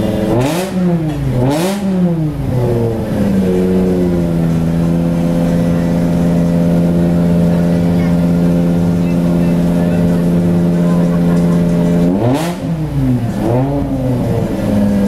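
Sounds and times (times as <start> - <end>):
car engine idling: 0.0 - 15.0
car engine revving: 0.0 - 15.0.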